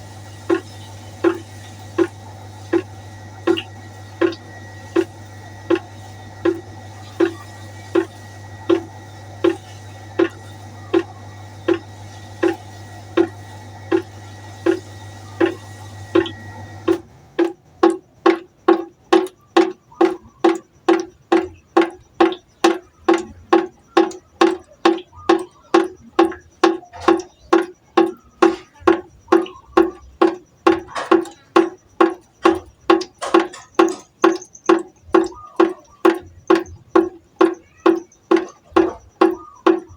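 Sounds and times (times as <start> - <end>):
background hum: 0.0 - 39.9
water drops plinking into pot: 0.1 - 39.9.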